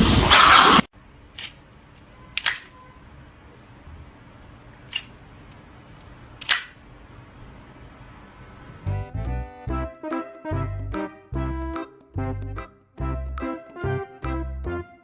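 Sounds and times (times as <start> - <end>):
faint background noise: 0.9 - 15.0.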